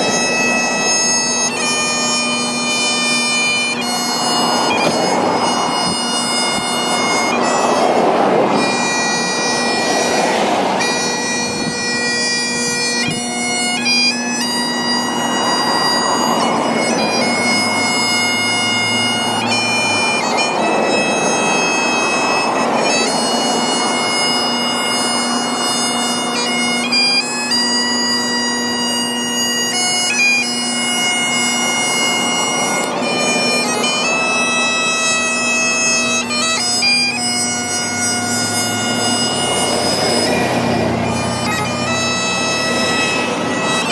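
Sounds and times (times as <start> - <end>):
bagpipe melody over drone: 0.0 - 43.9.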